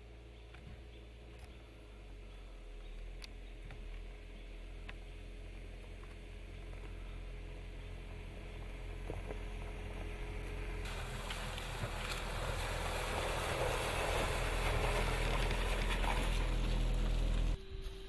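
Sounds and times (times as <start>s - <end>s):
car engine running low: 0.0s - 17.6s.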